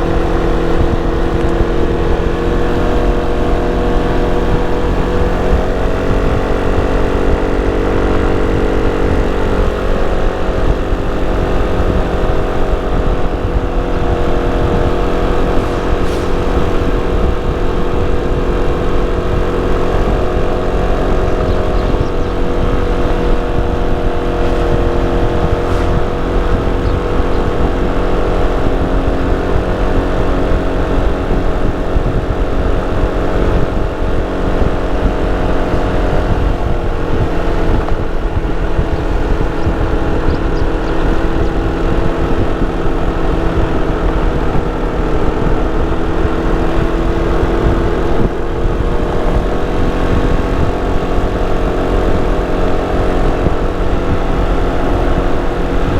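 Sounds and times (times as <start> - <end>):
scooter engine running: 0.0 - 55.9.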